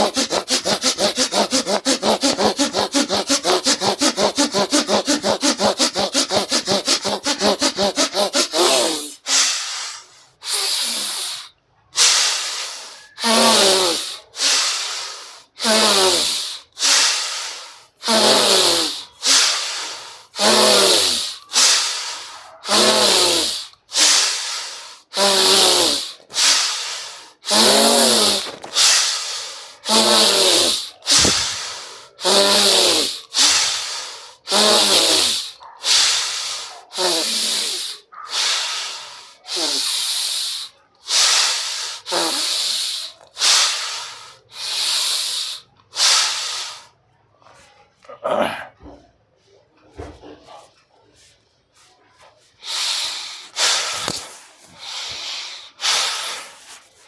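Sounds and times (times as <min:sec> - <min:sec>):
forceful breathing through throat: 0:00.0 - 0:47.8, 0:51.2 - 0:57.0.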